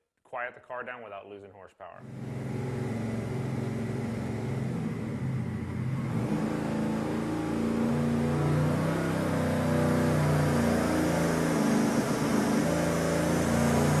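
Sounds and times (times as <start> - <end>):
engine revving on a dyno: 2.0 - 14.0.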